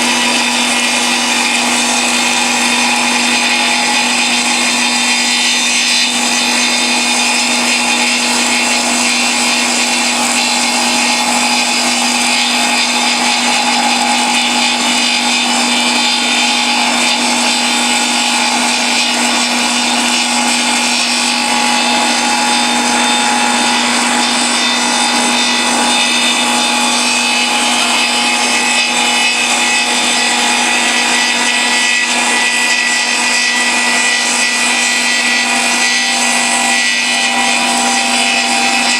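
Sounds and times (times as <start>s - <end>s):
lathe cutting log: 0.0s - 38.9s
motor humming: 0.0s - 38.9s.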